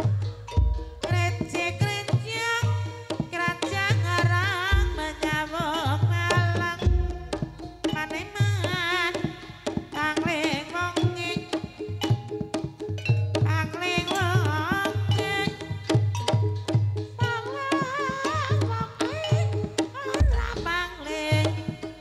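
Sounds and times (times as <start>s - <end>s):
ringing metallophone tones: 0.0s - 3.4s, 4.2s - 22.0s
drum strokes: 0.0s - 22.0s
gamelan music: 0.0s - 22.0s.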